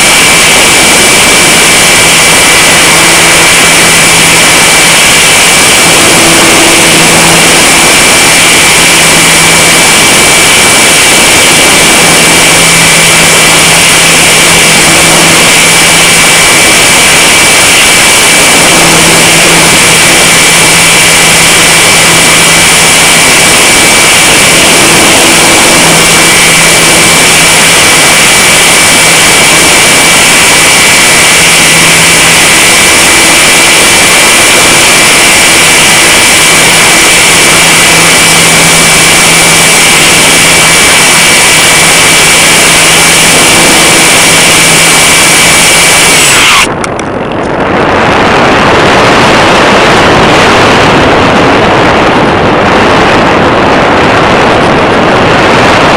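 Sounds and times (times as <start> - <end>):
electric motor whine: 0.0 - 55.9
wind rush on microphone: 0.0 - 55.9.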